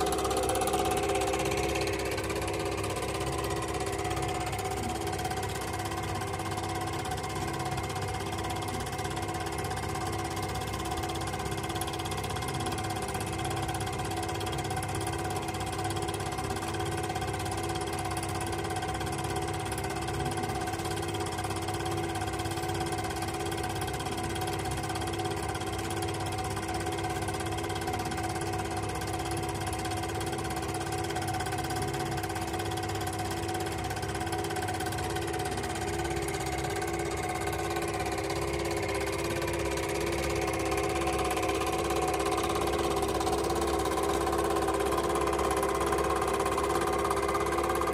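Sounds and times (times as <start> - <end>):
film projector humming: 0.0 - 47.9.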